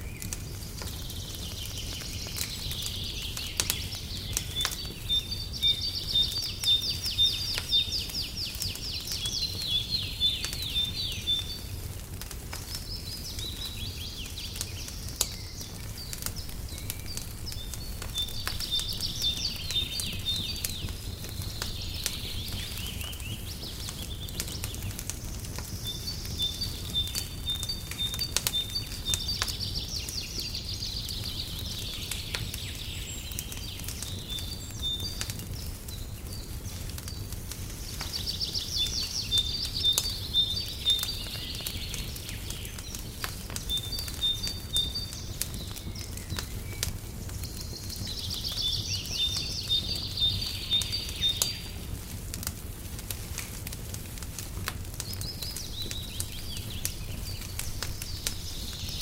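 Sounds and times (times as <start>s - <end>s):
fireplace crackling: 0.0s - 59.0s.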